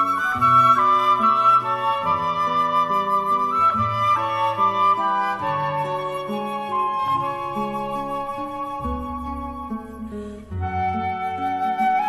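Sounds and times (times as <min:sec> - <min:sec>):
flute melody: 0:00.0 - 0:12.0.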